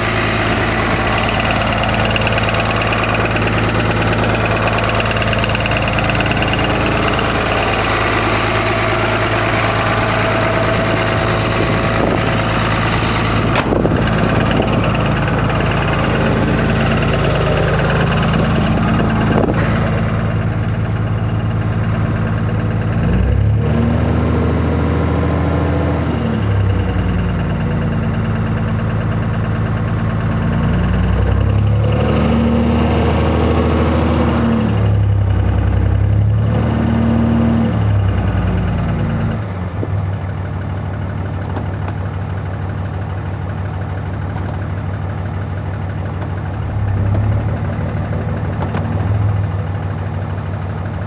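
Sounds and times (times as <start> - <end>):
diesel engine idling with knock: 0.0 - 51.0
diesel engine revving: 0.0 - 51.0.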